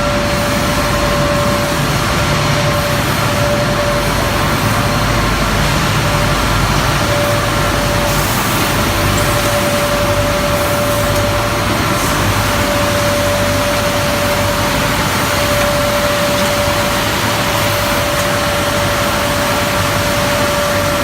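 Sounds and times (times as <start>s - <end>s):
constant whining tone: 0.0s - 21.0s
loud machine drone: 0.0s - 21.0s.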